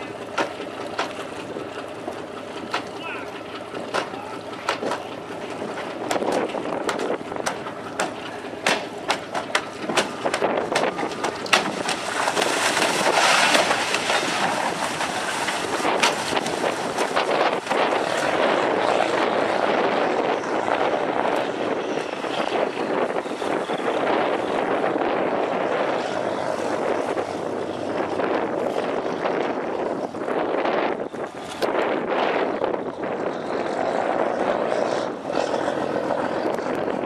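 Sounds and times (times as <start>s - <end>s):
boat engine running hard: 0.0s - 37.0s
water churning: 0.0s - 37.0s
wind buffeting microphone: 0.0s - 37.0s.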